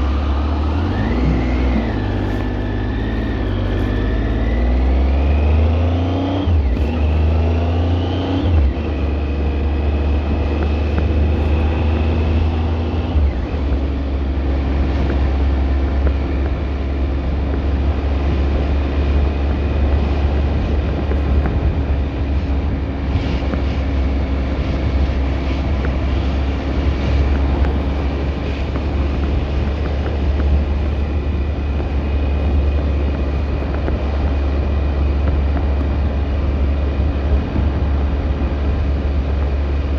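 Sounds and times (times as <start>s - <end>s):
car low rumble: 0.0s - 39.9s
engine tones rising: 0.0s - 39.9s
steady high whine: 0.0s - 39.9s.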